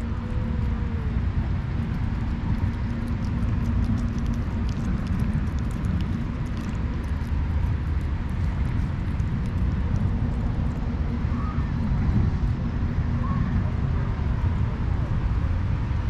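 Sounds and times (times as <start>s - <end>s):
hum: 0.0s - 16.0s
low traffic rumble: 0.0s - 16.0s.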